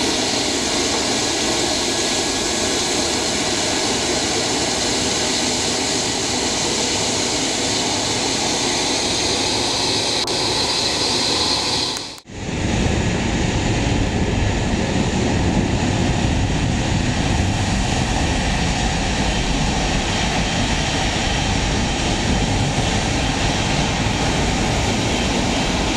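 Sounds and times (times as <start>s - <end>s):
deep jet rumble: 0.0s - 25.9s
jet engine high whine: 0.0s - 25.9s.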